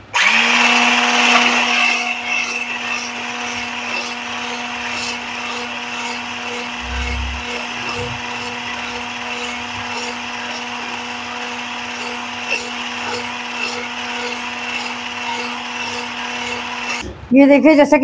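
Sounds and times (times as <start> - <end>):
electric hand blender humming: 0.0 - 17.0.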